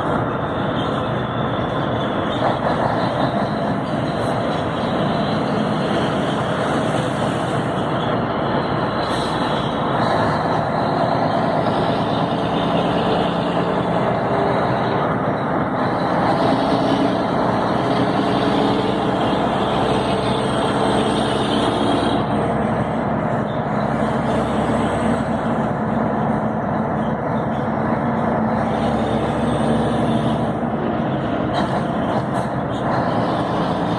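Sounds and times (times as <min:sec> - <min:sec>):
road noise: 0:00.0 - 0:33.9
truck diesel engine running: 0:00.0 - 0:33.9.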